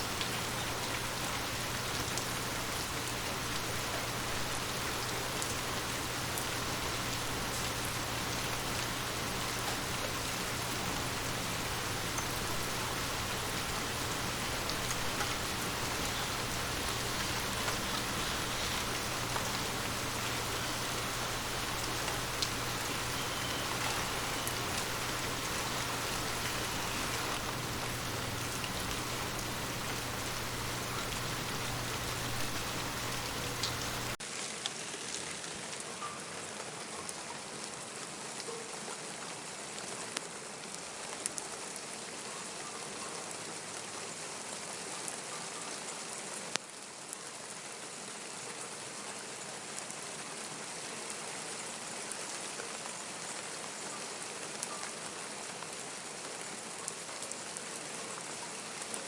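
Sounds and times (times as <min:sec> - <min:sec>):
steady rain hiss: 0:00.0 - 0:38.4, 0:43.4 - 0:59.0.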